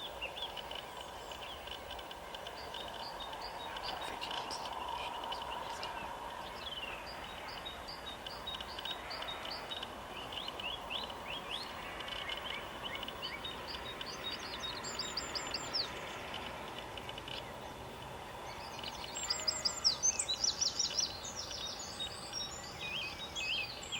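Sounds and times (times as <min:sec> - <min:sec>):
outdoor hiss: 0:00.0 - 0:23.9
songbirds chirping: 0:00.0 - 0:23.9.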